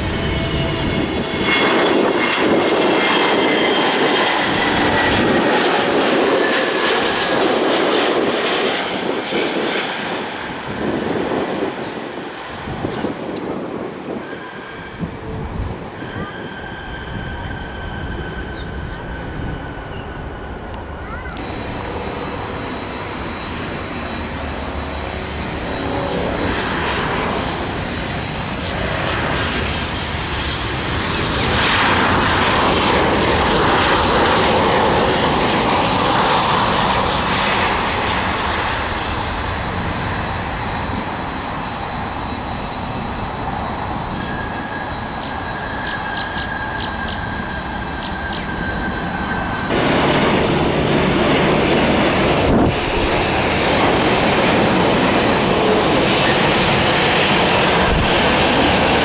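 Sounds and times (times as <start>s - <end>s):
jet airliner landing: 0.0s - 59.0s
steady high whine: 0.0s - 59.0s.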